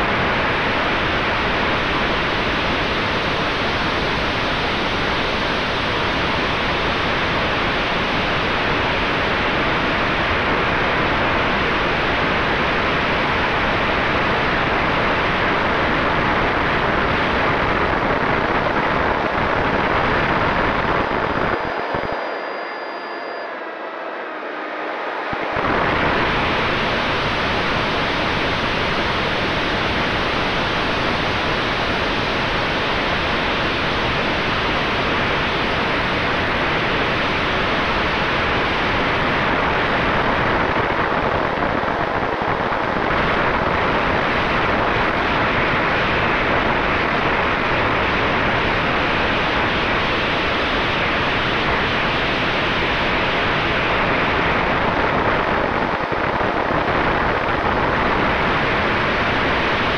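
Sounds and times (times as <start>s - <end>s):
rushing wind noise: 0.0s - 23.2s, 24.6s - 59.9s.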